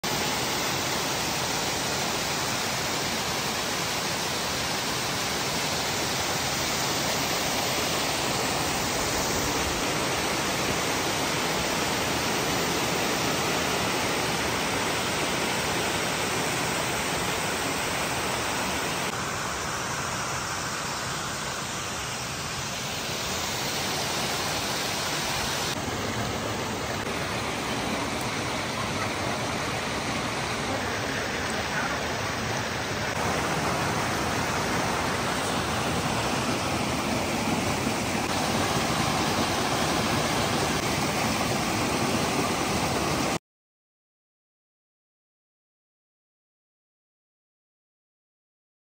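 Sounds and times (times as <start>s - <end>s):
waterfall rushing over rocks: 0.0s - 43.4s.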